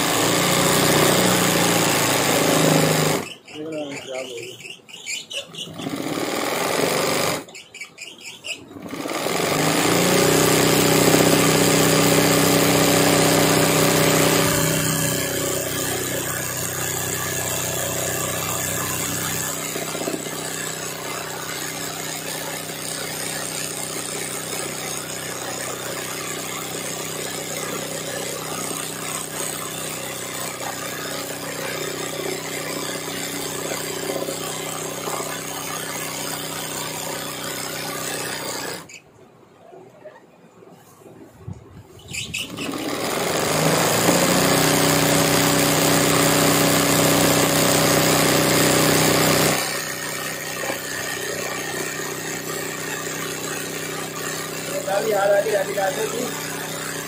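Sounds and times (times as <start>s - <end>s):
sewing machine stitching: 0.0s - 4.3s, 5.1s - 7.6s, 8.2s - 39.0s, 42.1s - 57.0s.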